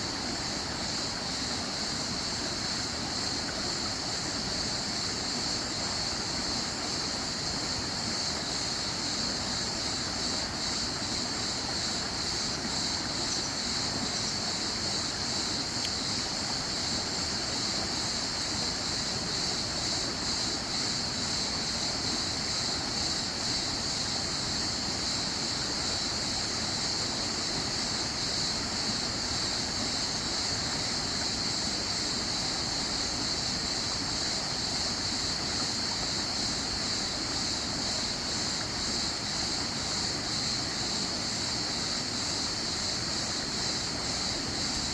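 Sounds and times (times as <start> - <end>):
running water: 0.0 - 44.9.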